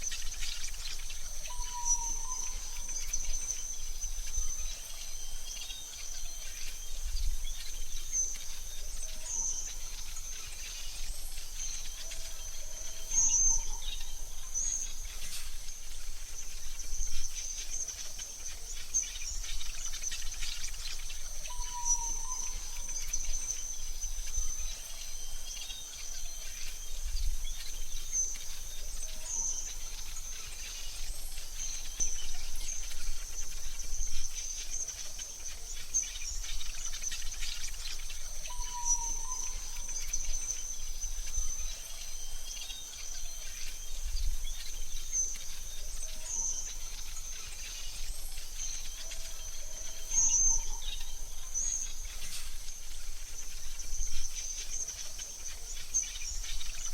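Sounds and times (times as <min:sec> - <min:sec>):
bird chirps: 0:00.0 - 0:56.9
insect drone: 0:00.0 - 0:56.9.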